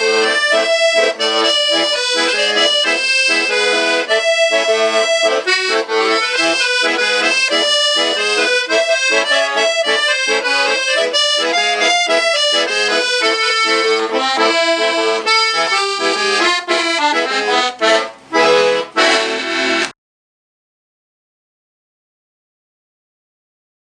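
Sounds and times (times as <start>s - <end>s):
accordion playing lively tune: 0.0s - 20.0s.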